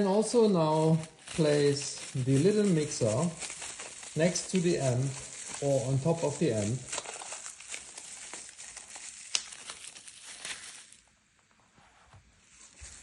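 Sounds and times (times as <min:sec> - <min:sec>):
crinkling handling noise: 0:00.0 - 0:13.0.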